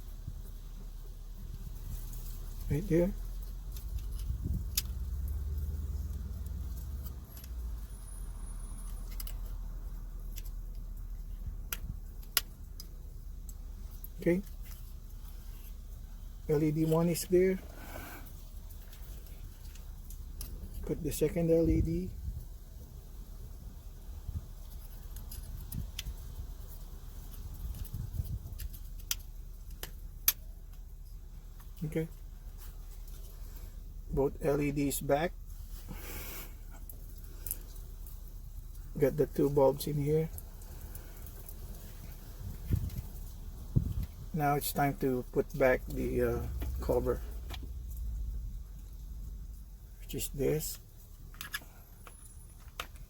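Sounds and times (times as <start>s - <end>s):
low steady rumble: 0.0s - 53.0s.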